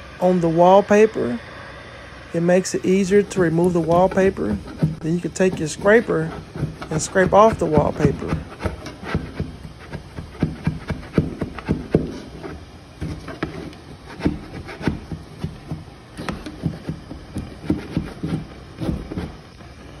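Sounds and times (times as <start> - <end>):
metal scraper scraping wallpaper: 3.0 - 19.4.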